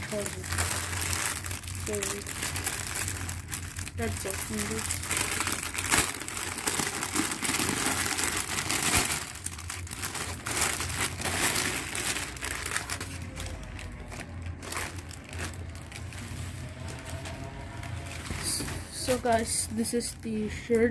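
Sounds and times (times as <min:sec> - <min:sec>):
plastic packaging crinkling: 0:00.0 - 0:20.9.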